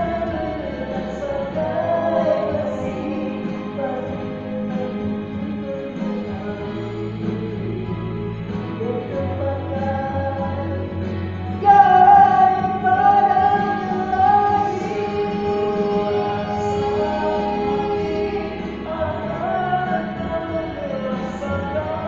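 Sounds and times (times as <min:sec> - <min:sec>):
men singing together: 0:00.0 - 0:08.0, 0:08.8 - 0:22.0.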